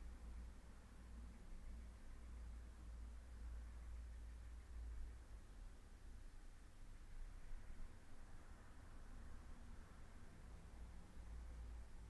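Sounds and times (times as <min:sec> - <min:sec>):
faint low rumble: 0:00.0 - 0:12.0.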